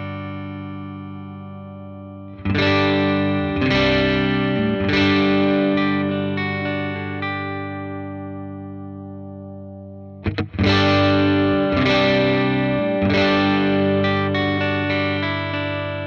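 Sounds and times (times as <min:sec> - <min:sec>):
electric guitar chords: 0:00.0 - 0:16.0.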